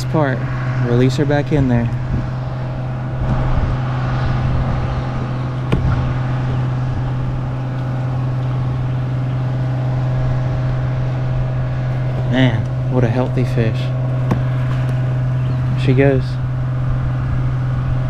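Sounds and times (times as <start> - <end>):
low hum: 0.0 - 18.0
rushing noise: 0.0 - 18.0.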